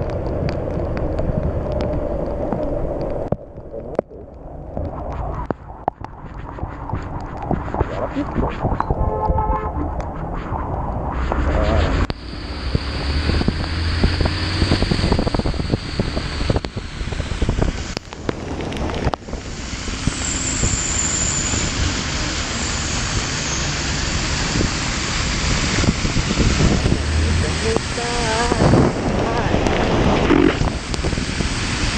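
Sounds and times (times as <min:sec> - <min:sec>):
rain and road spray hiss: 0:00.0 - 0:08.4, 0:11.4 - 0:31.9
wind rushing over microphone: 0:00.0 - 0:31.9.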